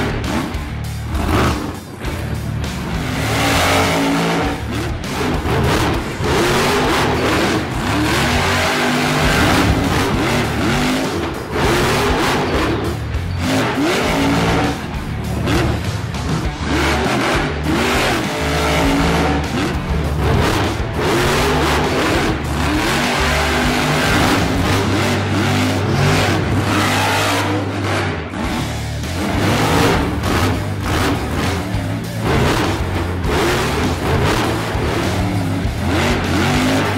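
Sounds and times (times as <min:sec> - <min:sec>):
background music: 0:00.0 - 0:36.9.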